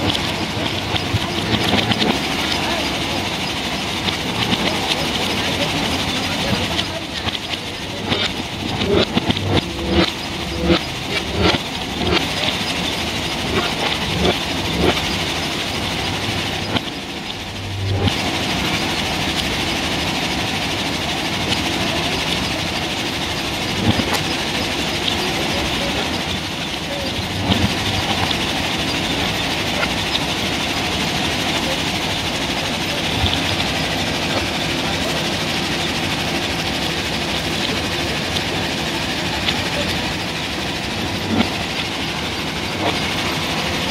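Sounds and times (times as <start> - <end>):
belt conveyor rattling: 0.0 - 43.9
diesel engine of backhoe digging: 0.0 - 43.9.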